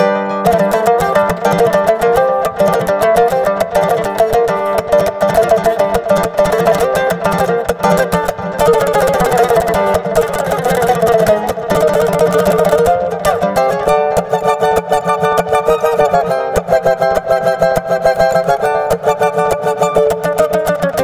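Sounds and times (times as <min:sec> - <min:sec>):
plucked string instruments: 0:00.0 - 0:21.0.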